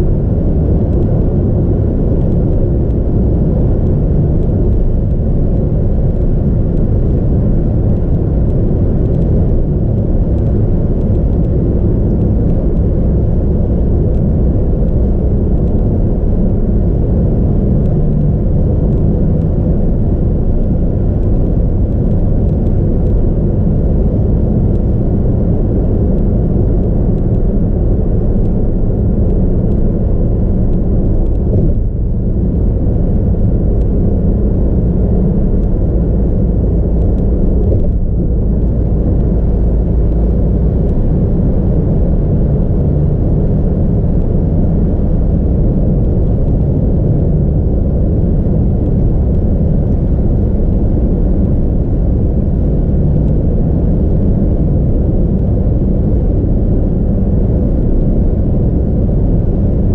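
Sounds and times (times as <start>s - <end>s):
car road rumble from inside: 0.0s - 59.9s.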